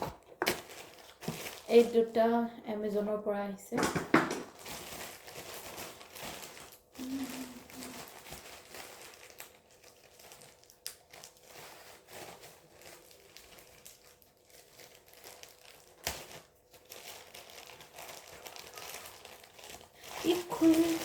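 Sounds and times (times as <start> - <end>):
plastic packaging crinkling: 0.0 - 2.2, 3.9 - 21.0.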